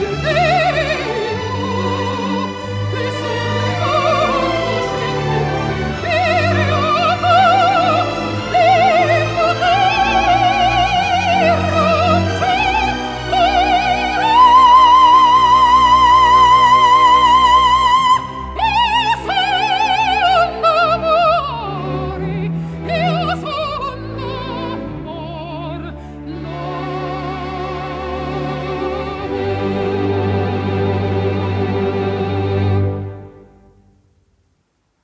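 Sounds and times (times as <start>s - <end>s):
orchestra playing: 0.0s - 33.8s
soprano singing: 0.0s - 33.8s.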